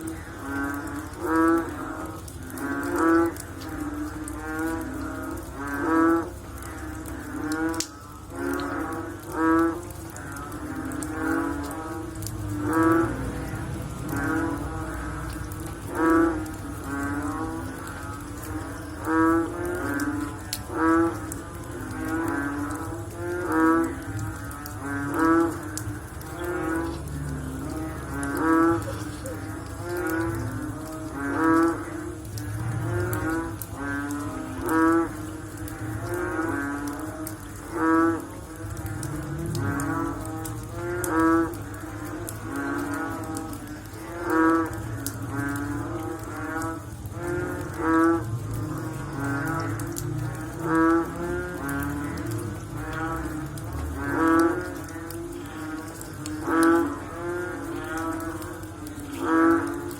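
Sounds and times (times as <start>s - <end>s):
chorus of frogs croaking: 0.0s - 59.9s
loud low frog croak: 0.0s - 59.9s.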